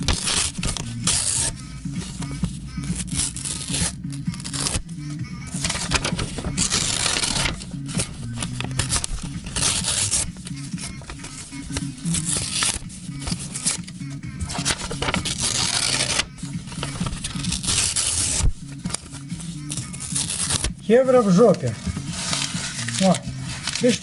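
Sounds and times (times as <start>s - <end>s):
background music: 0.0s - 24.0s
paper banknotes rustling: 0.0s - 24.0s.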